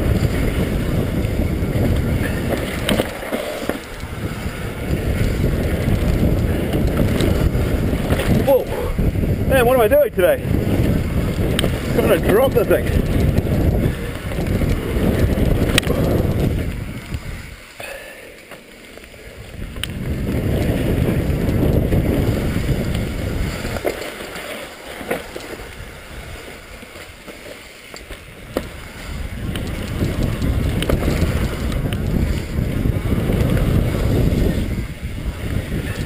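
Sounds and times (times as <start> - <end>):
wind rushing over microphone: 0.0 - 17.7, 19.3 - 24.0, 25.5 - 27.2, 28.1 - 36.0
bike clicks and rattles: 0.0 - 36.0
tyres rumbling: 0.0 - 36.0.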